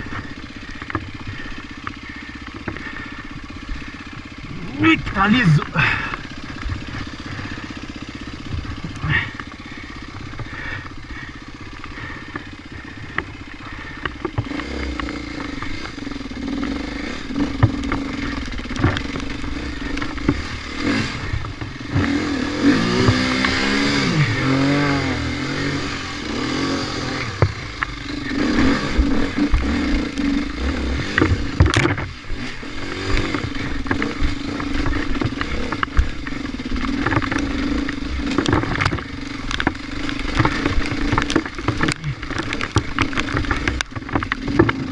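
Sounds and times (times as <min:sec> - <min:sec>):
bike clattering over rough ground: 0:00.0 - 0:44.9
dirt bike engine revving: 0:00.0 - 0:44.9.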